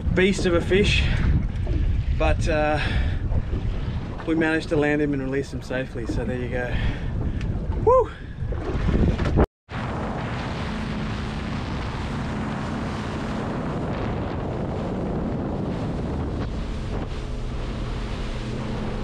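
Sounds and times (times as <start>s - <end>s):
boat motor humming: 0.0s - 19.0s
wind buffeting microphone: 0.0s - 19.0s.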